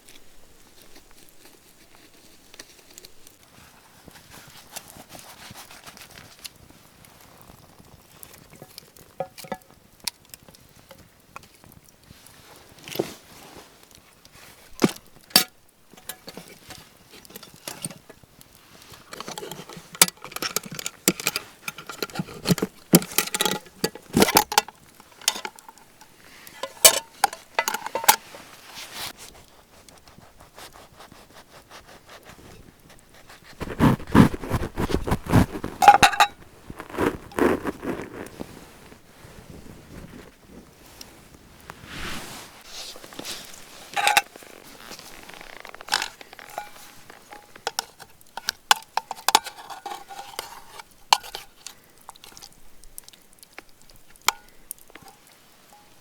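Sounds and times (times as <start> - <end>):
objects being handled: 8.2 - 30.3, 32.3 - 56.0.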